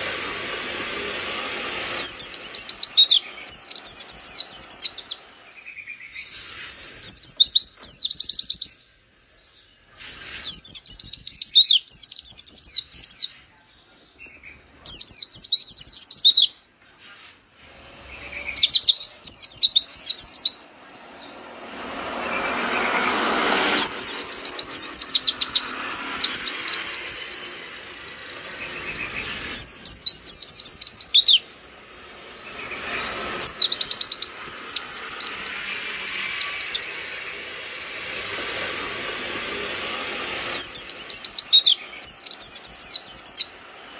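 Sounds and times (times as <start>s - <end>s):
broad rushing noise: 0.0s - 43.9s
small bird singing: 0.0s - 43.9s.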